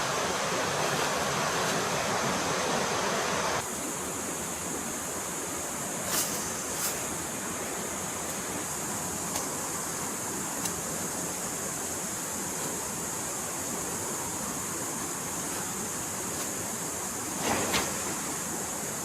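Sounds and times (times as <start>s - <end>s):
forest stream flowing: 0.0s - 19.0s.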